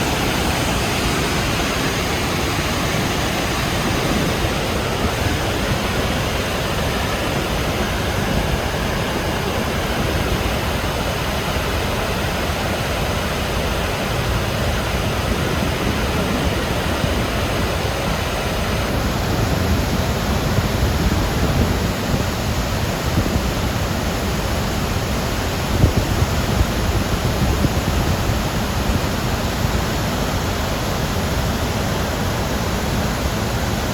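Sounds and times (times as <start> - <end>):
water rushing from a dam: 0.0 - 33.9.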